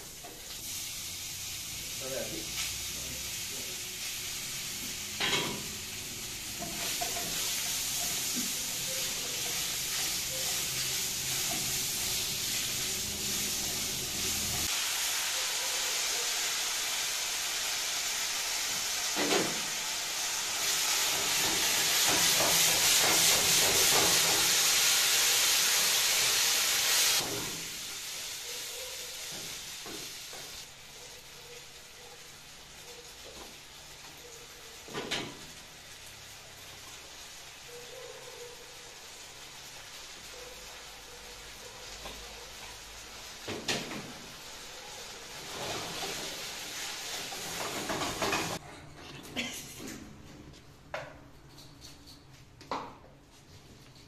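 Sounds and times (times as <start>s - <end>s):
food sizzling in a pan: 0.0s - 48.6s.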